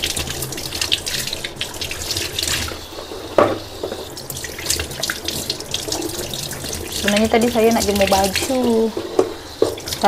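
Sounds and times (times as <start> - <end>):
tap water splashing into sink: 0.0 - 10.0.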